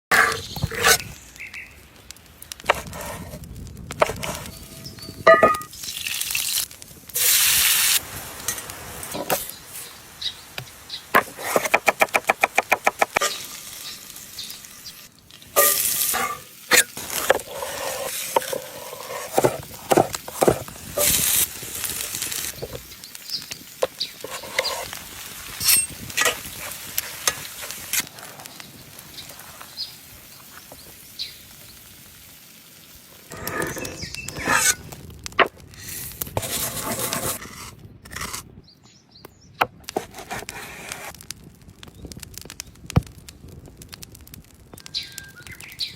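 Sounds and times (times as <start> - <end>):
food sizzling and frying: 0.1 - 38.3.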